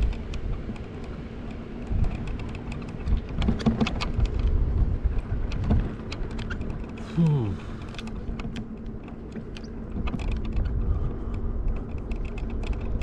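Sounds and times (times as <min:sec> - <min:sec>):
small clicks and rattles: 0:00.0 - 0:07.1, 0:07.8 - 0:13.0
wind buffeting microphone: 0:00.0 - 0:13.0.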